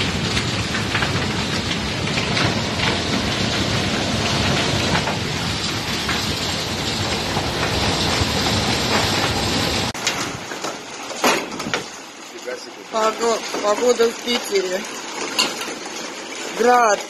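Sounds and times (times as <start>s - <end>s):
heavy rain hissing: 0.0s - 10.5s, 11.6s - 15.2s
hailstones ticking: 0.0s - 17.0s.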